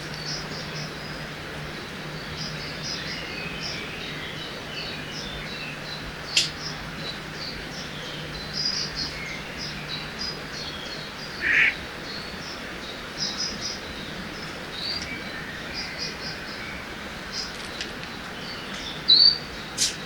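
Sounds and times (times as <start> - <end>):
river rushing: 0.0 - 20.0
small birds chirping: 0.0 - 20.0.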